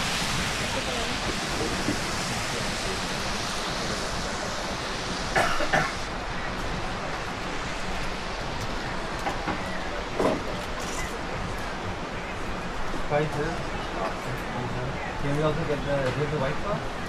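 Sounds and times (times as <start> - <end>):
rushing falling water: 0.0 - 17.0.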